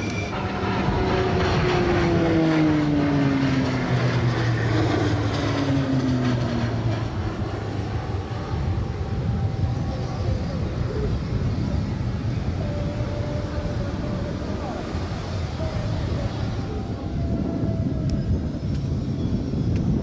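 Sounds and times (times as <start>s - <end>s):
turboprop aircraft flying past: 0.0s - 20.0s.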